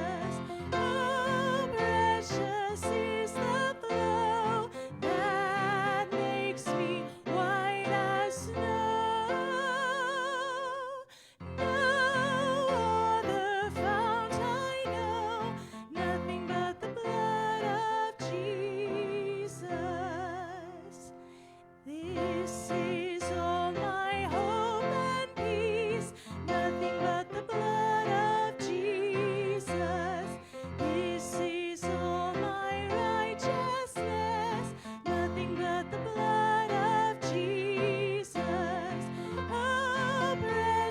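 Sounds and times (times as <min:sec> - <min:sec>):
person singing with vibrato: 0:00.0 - 0:40.9.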